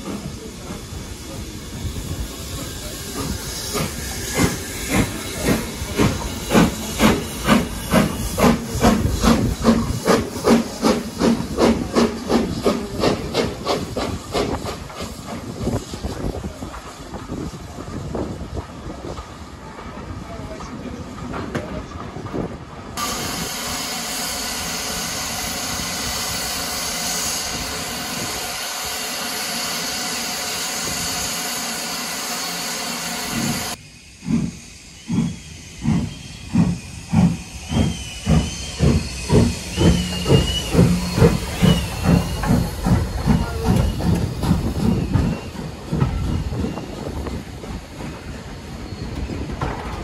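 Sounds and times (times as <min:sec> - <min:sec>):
coaches rolling on rails: 0:00.0 - 0:50.0
steam locomotive blowing off steam: 0:00.0 - 0:50.0
steam locomotive exhaust beats: 0:00.0 - 0:50.0.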